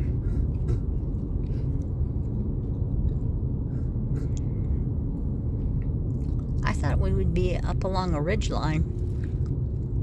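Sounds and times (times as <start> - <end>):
vehicle driving rumble: 0.0 - 10.0.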